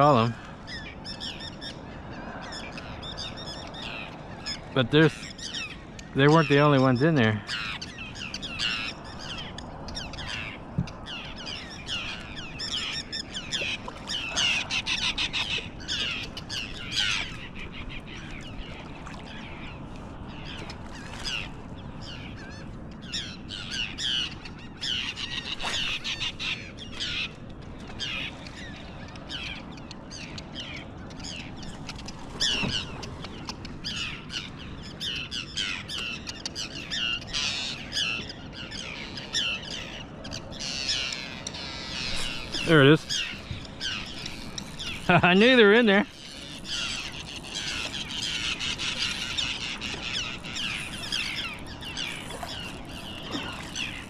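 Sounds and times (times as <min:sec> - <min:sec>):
gulls calling: 0:00.0 - 0:54.0.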